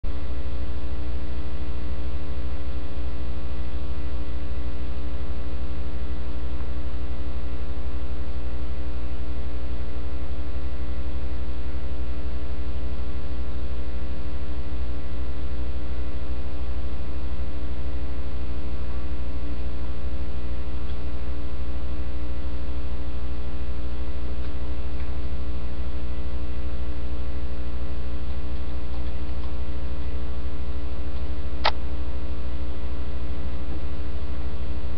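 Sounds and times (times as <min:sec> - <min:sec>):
electrical mains hum: 0:00.0 - 0:34.9.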